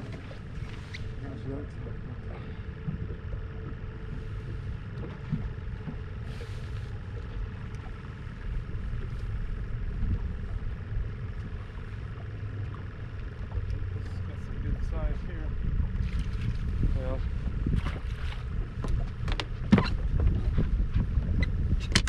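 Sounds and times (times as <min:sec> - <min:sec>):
motor running with low rumble: 0:00.0 - 0:22.0.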